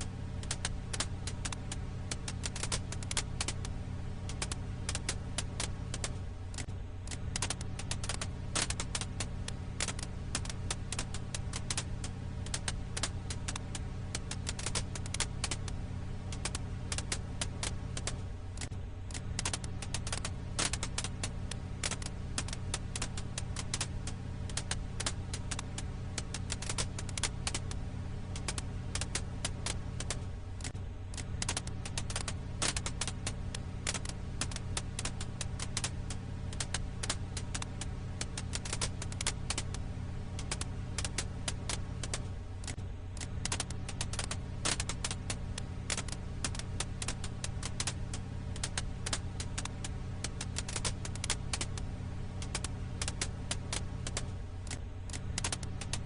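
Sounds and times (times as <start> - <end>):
firewood crackling: 0.0 - 56.0
steady low rumble: 0.0 - 56.0.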